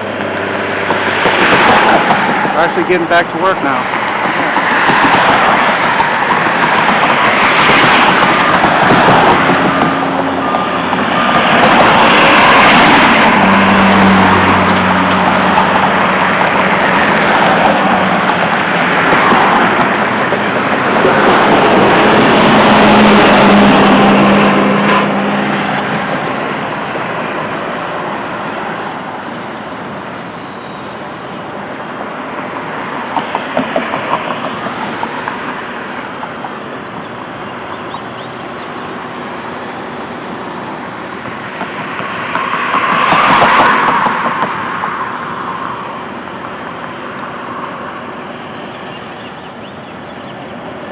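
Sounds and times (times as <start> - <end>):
motor vehicles passing: 0.0 - 50.9.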